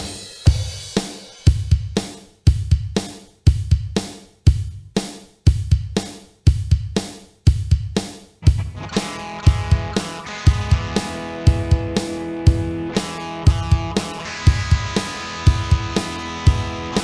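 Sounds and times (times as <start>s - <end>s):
uptempo drum kit beat: 0.0s - 17.0s.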